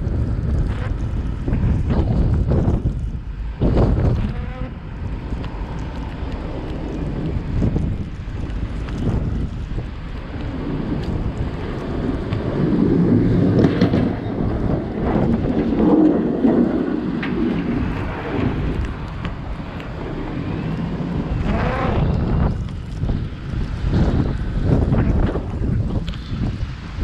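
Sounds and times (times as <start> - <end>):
road noise: 0.0 - 27.0
wind noise: 0.0 - 27.0.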